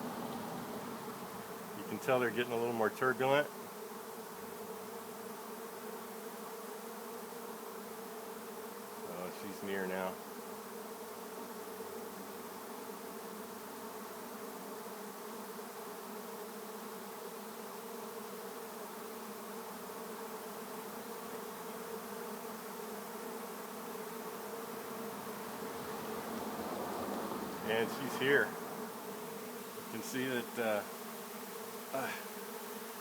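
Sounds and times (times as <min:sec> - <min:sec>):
bee swarm buzzing: 0:00.0 - 0:33.0.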